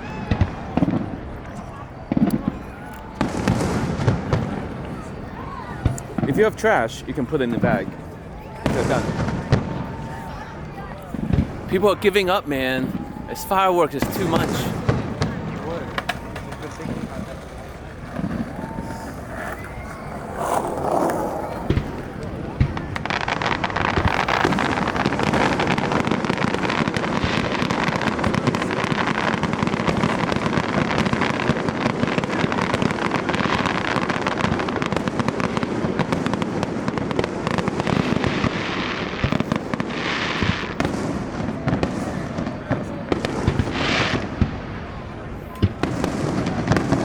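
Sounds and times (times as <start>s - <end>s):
fireworks bursting and crackling: 0.0s - 47.0s.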